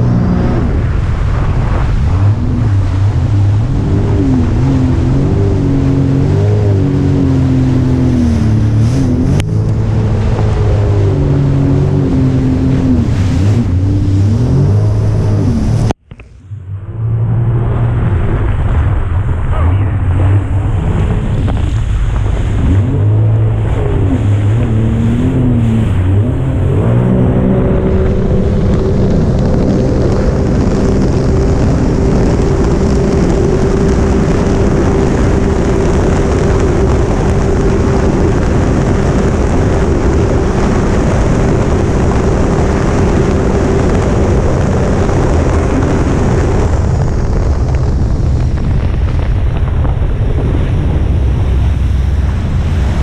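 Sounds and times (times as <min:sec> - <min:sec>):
personal watercraft engine: 0:00.0 - 0:53.0
rush of water: 0:00.0 - 0:53.0
wind buffeting microphone: 0:00.0 - 0:53.0.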